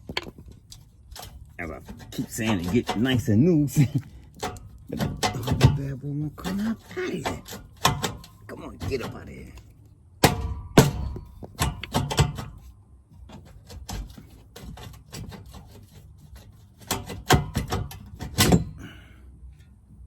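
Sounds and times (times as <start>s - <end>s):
metal exhaust tip knocking and clattering: 0.0s - 19.8s.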